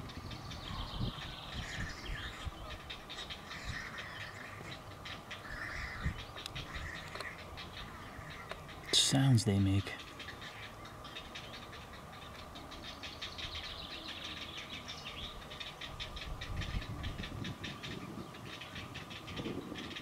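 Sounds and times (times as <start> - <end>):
heron chicks ticking chatter: 0.0 - 20.0.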